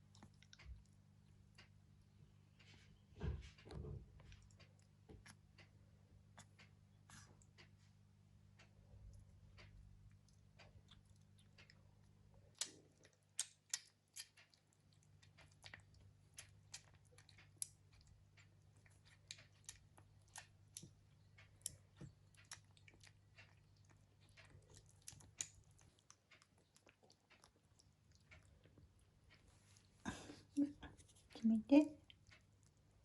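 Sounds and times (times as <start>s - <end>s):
kitten chewing clicks: 0.0s - 7.9s, 8.5s - 30.0s, 32.0s - 33.0s.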